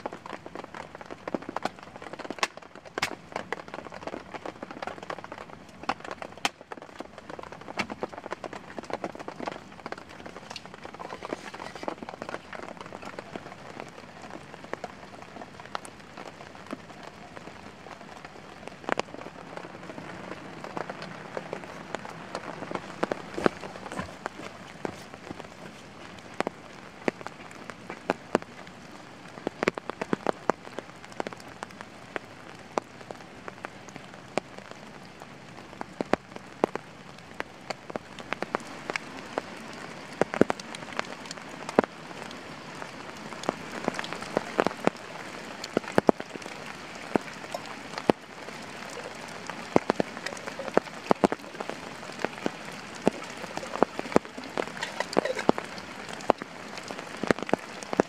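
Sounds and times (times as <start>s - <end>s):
rain falling on a pond: 0.0s - 58.0s.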